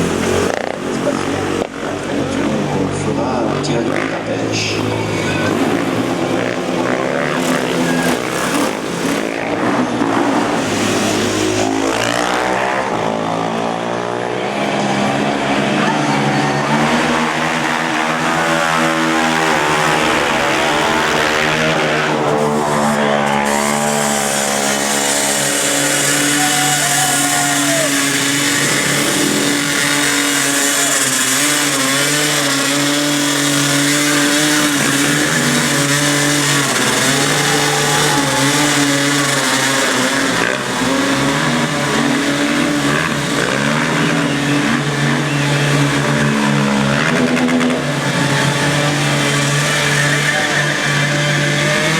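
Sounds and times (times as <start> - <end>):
racing engines revving: 0.0 - 51.9.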